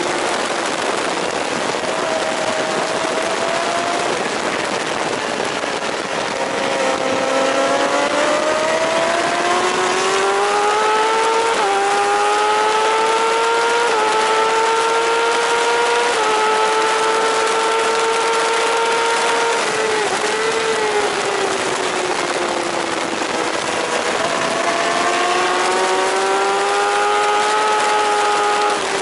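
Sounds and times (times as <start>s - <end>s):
motorcycle engine accelerating: 0.0s - 29.0s
wind noise: 0.0s - 29.0s.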